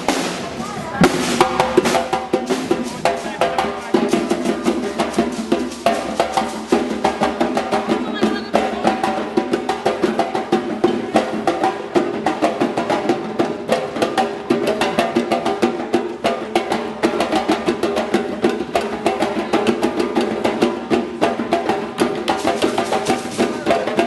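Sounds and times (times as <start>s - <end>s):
drum ensemble playing: 0.0s - 24.0s.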